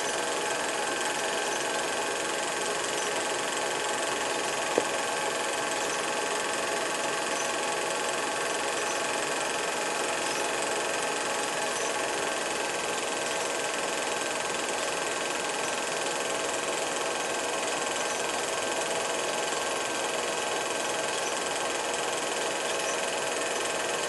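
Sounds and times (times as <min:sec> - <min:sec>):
mechanical whir and hum: 0:00.0 - 0:24.0.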